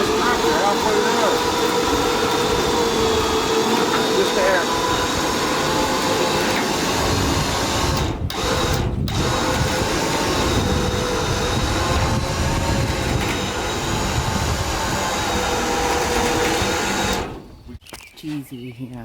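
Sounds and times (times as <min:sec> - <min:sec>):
engine droning: 0:00.0 - 0:17.5.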